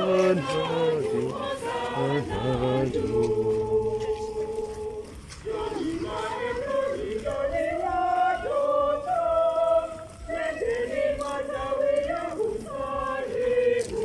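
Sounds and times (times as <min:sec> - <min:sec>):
congregation singing a hymn: 0:00.0 - 0:14.0.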